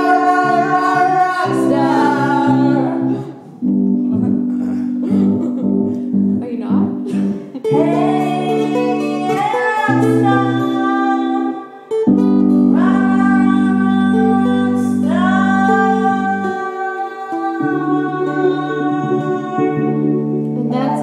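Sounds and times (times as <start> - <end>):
guitar playing low chords: 0.0 - 21.0
person singing long notes: 0.0 - 21.0.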